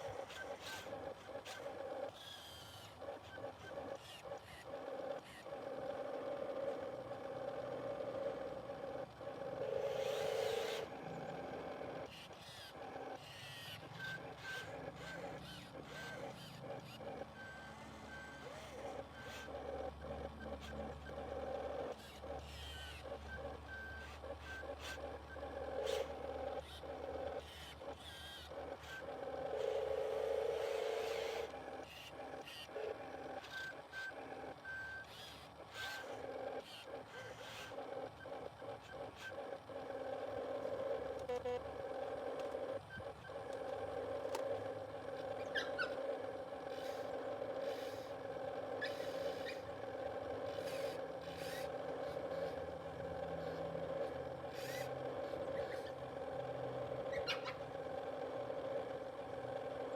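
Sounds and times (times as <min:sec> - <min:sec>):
small electric motors whining: 0:00.0 - 0:59.9.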